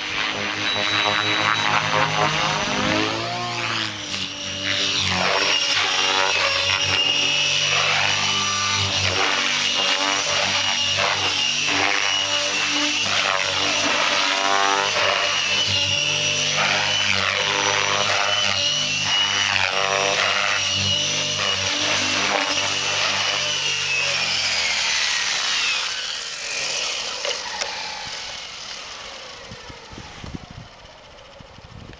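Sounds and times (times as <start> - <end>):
high electric motor whine: 0.0 - 31.9
rotor blade noise: 0.0 - 31.9.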